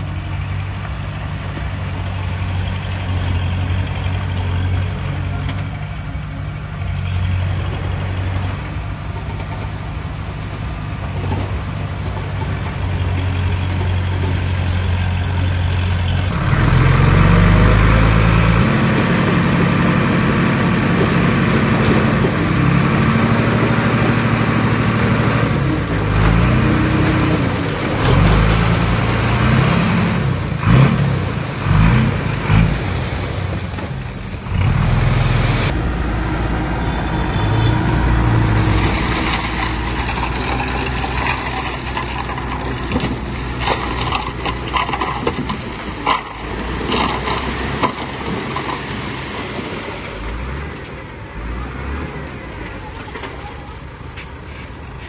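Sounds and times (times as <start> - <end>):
heavy diesel engine revving: 0.0 - 52.6.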